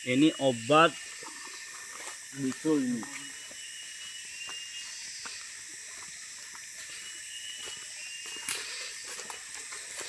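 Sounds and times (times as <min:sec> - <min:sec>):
insect chorus buzzing: 0:00.0 - 0:10.0.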